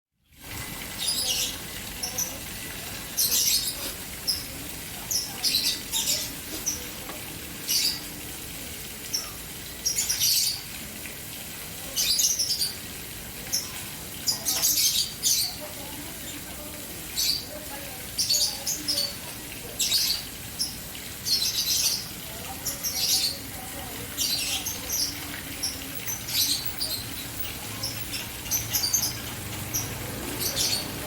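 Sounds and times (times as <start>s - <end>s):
fountain splashing: 0.2s - 31.0s
birds chirping: 0.9s - 8.3s, 9.0s - 10.7s, 11.8s - 31.0s.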